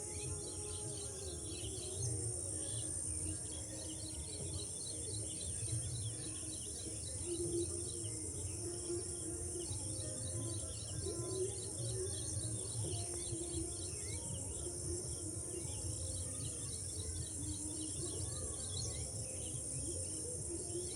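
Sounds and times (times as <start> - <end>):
crickets droning: 0.0 - 20.9
small birds chirping: 0.0 - 20.9.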